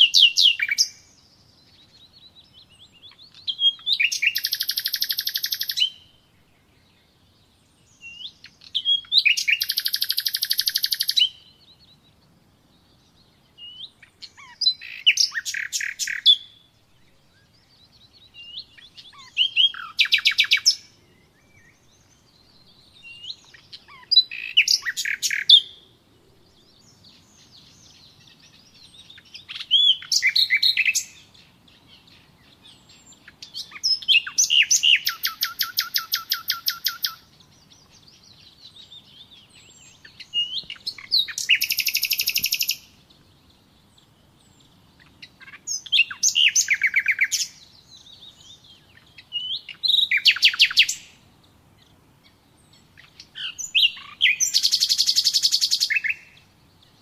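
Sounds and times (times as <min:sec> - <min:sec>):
songbird trilling: 0:00.0 - 0:06.2, 0:07.0 - 0:12.1, 0:12.8 - 0:25.9, 0:26.6 - 0:57.0.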